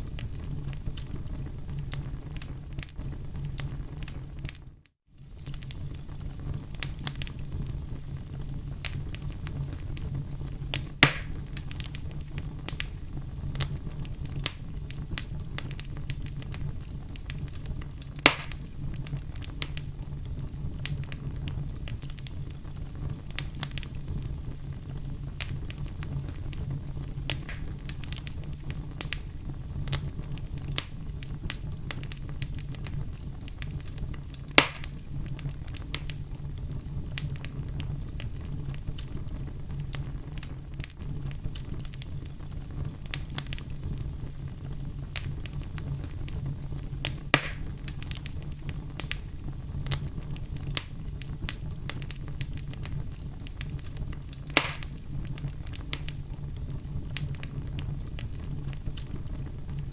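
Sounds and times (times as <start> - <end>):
fire popping: 0.0 - 59.9
fireplace fire crackling: 0.0 - 59.9.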